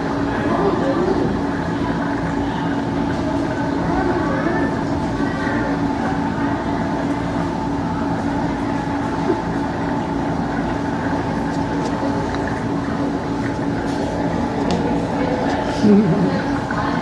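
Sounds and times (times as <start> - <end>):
aquarium pumps and filters droning: 0.0 - 17.0.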